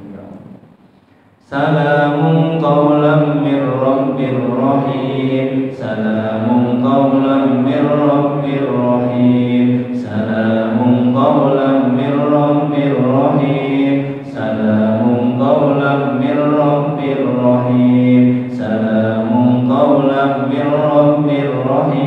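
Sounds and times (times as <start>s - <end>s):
group chanting in unison: 1.5s - 22.0s.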